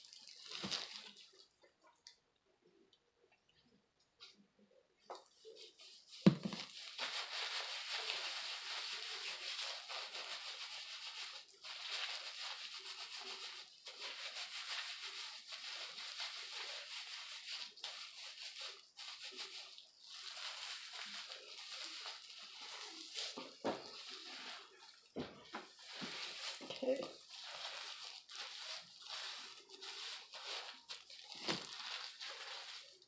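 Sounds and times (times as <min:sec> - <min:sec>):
gloved hands rubbing wet hair: 0:05.2 - 0:33.0.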